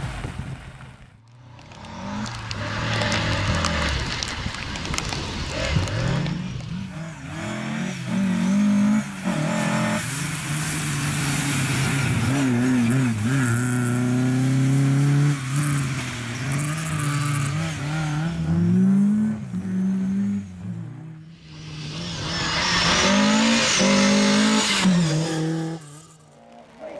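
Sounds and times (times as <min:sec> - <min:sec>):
rally car engine revving: 0:01.6 - 0:04.3, 0:05.0 - 0:26.9.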